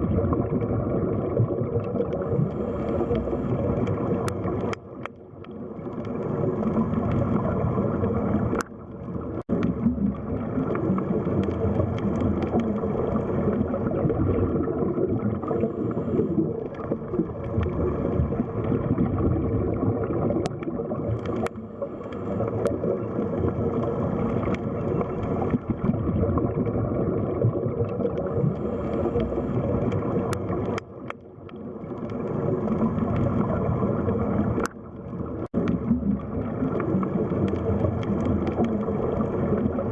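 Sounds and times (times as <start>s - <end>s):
muffled underwater water rush: 0.0s - 39.9s.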